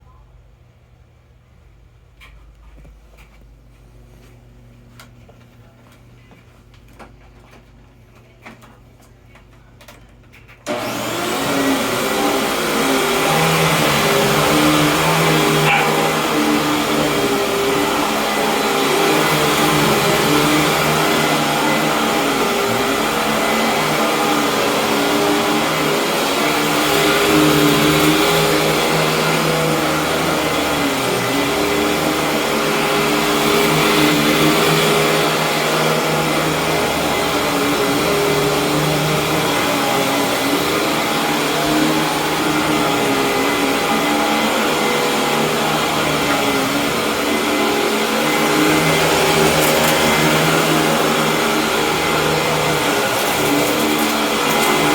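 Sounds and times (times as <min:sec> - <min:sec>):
vacuum cleaner running: 0:10.6 - 0:54.9.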